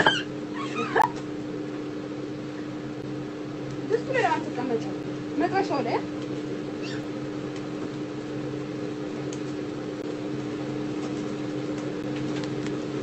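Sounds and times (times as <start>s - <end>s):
appliance motor humming: 0.0s - 13.0s.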